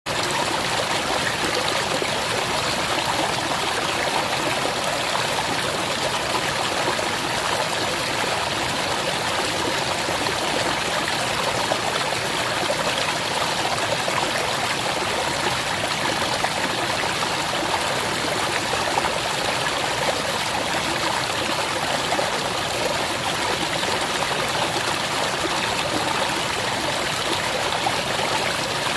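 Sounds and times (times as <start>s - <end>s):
river water flowing over stones: 0.1s - 28.9s.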